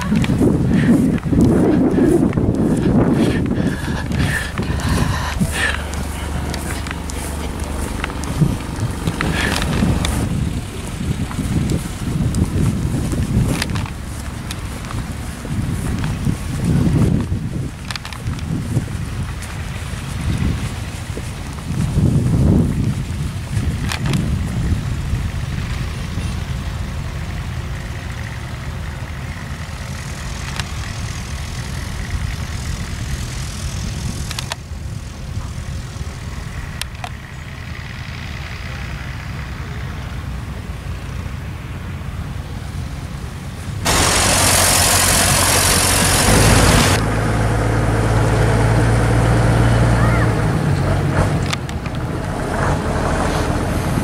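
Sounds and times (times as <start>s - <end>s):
diesel engines idling: 0.0s - 54.0s
wind on microphone: 0.0s - 54.0s.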